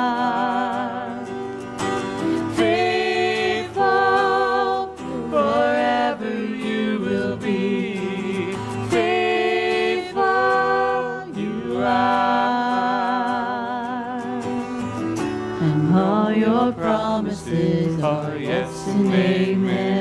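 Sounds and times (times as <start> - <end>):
people singing worship song: 0.0 - 14.6, 15.6 - 20.0
guitar accompaniment: 0.0 - 20.0.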